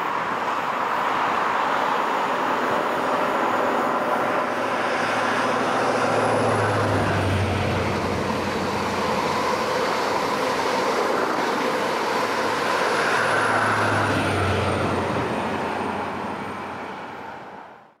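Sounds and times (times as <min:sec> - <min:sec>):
diesel engine hum: 0:00.0 - 0:18.0
train passing at speed: 0:00.0 - 0:18.0.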